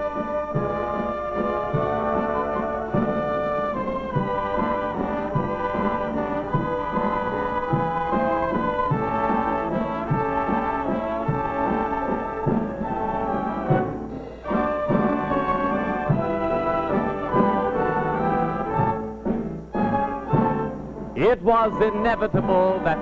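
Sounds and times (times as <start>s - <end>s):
orchestral music led by brass: 0.0s - 23.0s.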